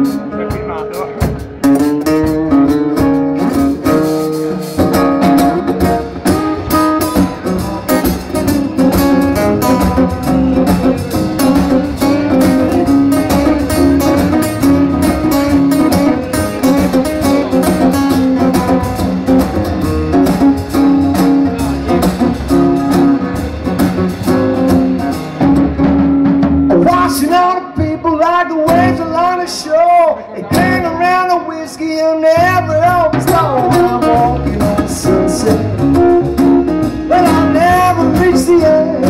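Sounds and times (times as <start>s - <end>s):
acoustic guitars strummed and picked: 0.0s - 39.0s
drums: 0.0s - 39.0s.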